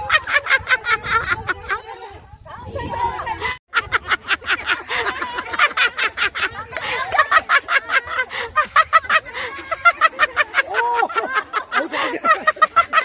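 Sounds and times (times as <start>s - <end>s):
voices cheering and whooping: 0.0s - 13.0s.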